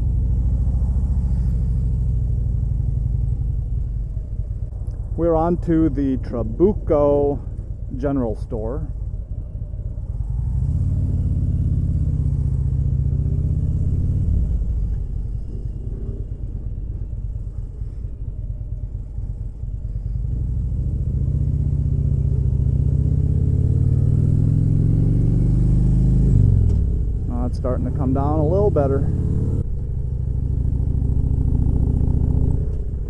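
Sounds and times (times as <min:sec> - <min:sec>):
motorcycle engine accelerating: 0:00.0 - 0:07.7, 0:08.9 - 0:33.0.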